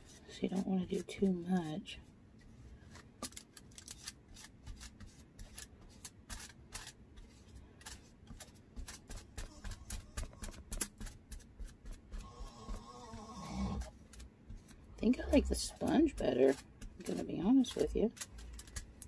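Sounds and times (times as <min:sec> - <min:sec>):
paintbrush scratching strokes: 0:00.0 - 0:03.0, 0:03.8 - 0:19.0.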